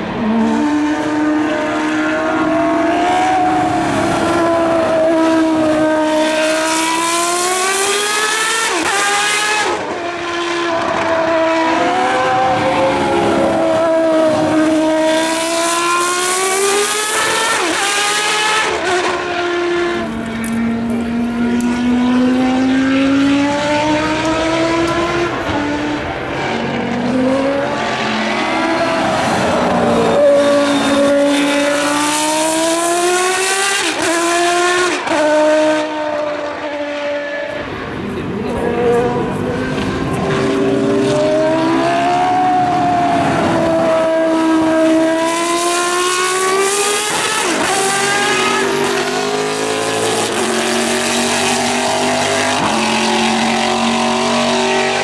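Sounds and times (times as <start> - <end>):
racing car engine at high revs: 0.0 - 55.0.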